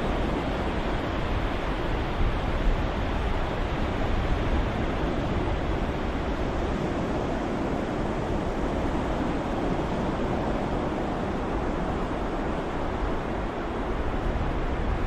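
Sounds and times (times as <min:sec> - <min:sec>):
steady wash of surf: 0:00.0 - 0:15.0.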